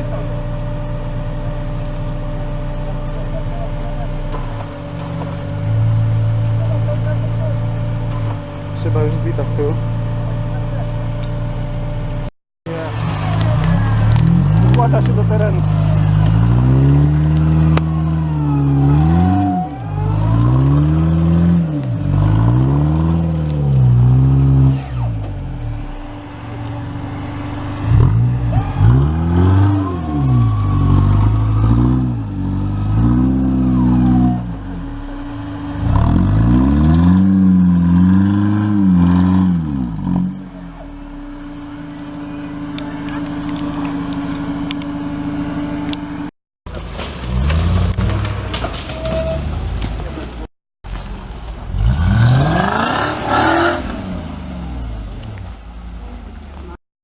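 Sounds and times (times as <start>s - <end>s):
off-road vehicle engine revving: 0.0s - 56.8s.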